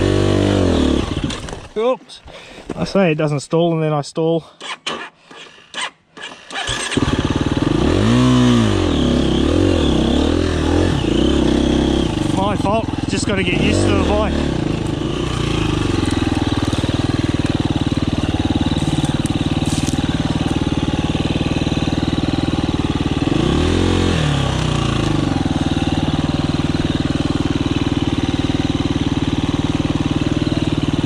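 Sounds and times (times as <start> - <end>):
motorcycle engine running at low revs: 0.0 - 1.6, 7.0 - 31.0.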